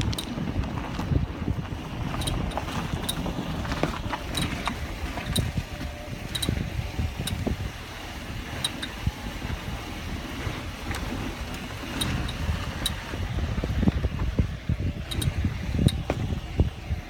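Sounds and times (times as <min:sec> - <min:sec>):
low uneven engine rumble: 0:00.0 - 0:17.0.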